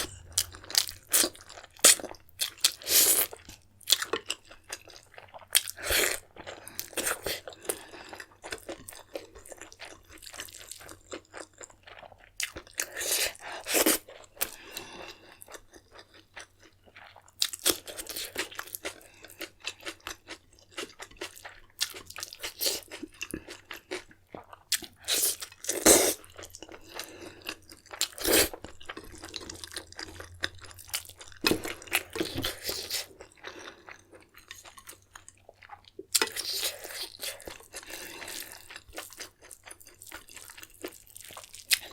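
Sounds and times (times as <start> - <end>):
person chewing and crunching food: 0.0 - 41.9.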